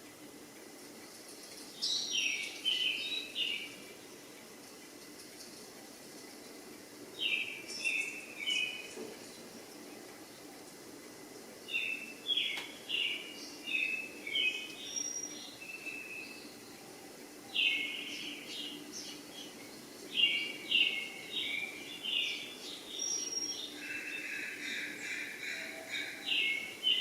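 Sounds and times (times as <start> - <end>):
birds chirping: 0.0 - 27.0
faint steady background noise: 0.0 - 27.0.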